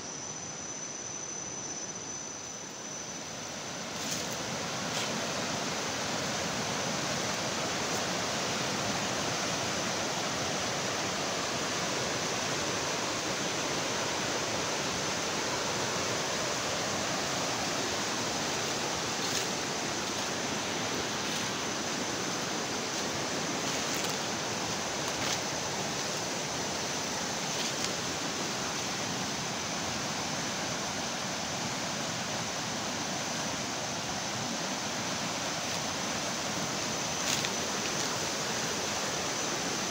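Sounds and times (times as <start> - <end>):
river rushing over rapids: 3.3 - 39.9.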